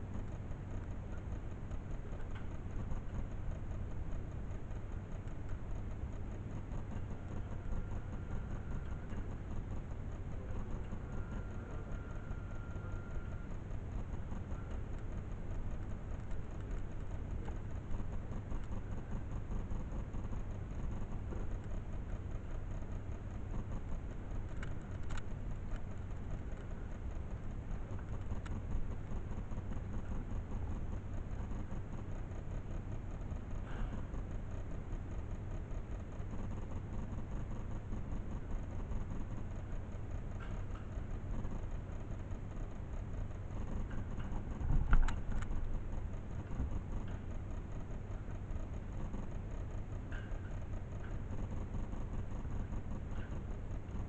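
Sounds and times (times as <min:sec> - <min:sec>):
faint regular ticking: 0:00.0 - 0:54.0.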